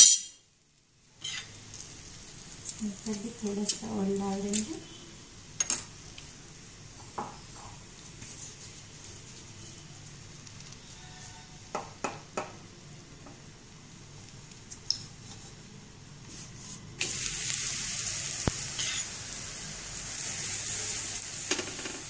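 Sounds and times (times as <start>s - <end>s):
flatbread sizzling on griddle: 0.0s - 11.8s, 13.8s - 22.0s.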